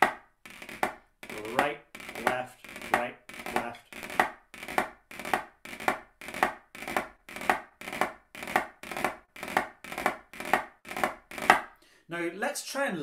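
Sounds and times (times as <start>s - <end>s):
drumstick rolls on practice pad: 0.0s - 11.7s.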